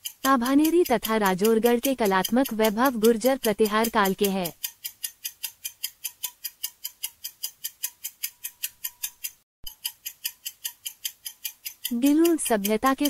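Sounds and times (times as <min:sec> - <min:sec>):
fast clock ticking: 0:00.0 - 0:13.0.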